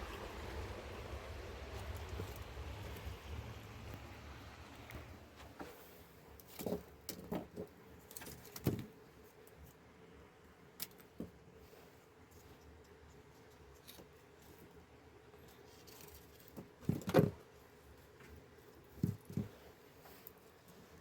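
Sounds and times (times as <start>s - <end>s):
faint steady background: 0.0s - 21.0s.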